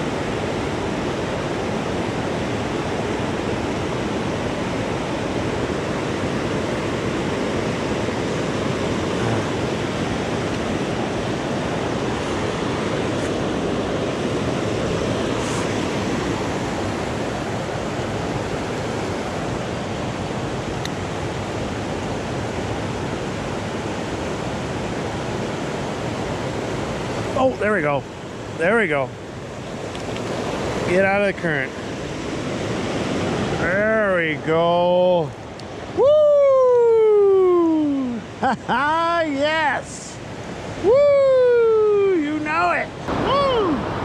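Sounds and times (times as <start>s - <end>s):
river current rushing: 0.0s - 44.0s.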